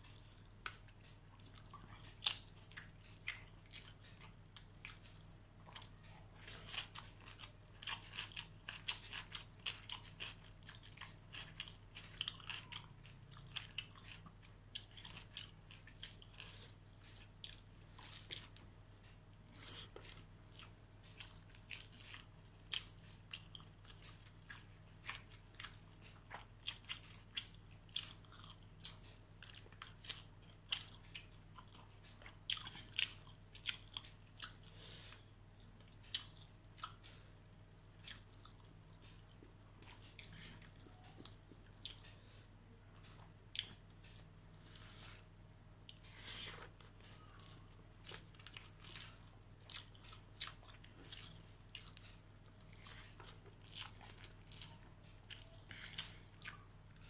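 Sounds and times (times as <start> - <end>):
chewing and mouth clicks: 0.0 - 42.2, 42.9 - 57.0.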